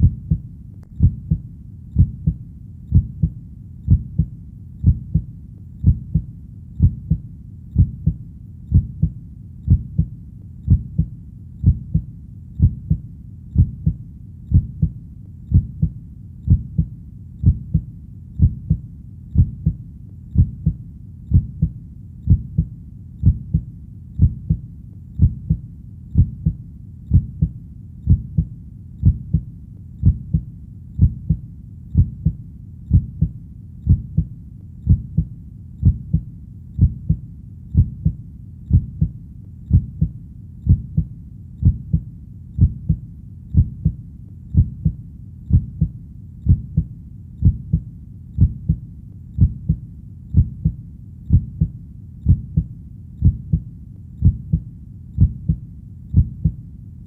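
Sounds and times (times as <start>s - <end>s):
heartbeat thumping: 0.0s - 48.8s, 49.4s - 56.6s.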